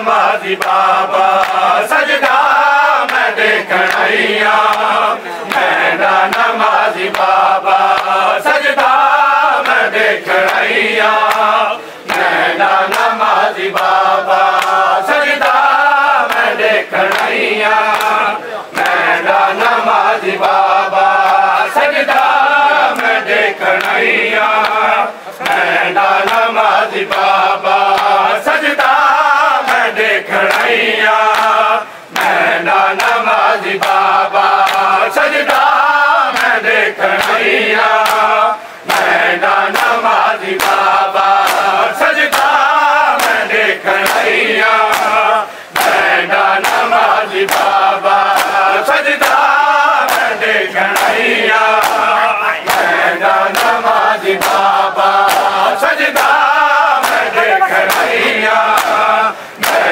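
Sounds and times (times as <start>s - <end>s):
men chanting in unison: 0.0s - 59.9s
hands slapping on chests: 0.5s - 59.9s.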